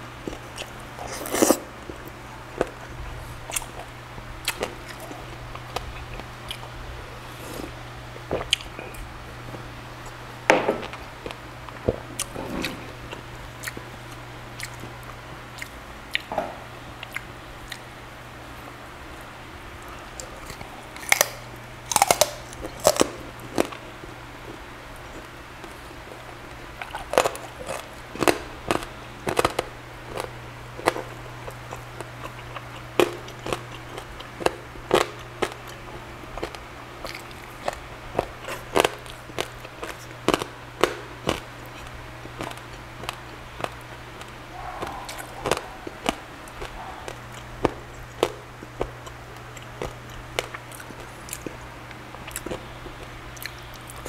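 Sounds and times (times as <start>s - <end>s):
crunchy chewing: 0.1s - 16.3s, 16.9s - 54.0s.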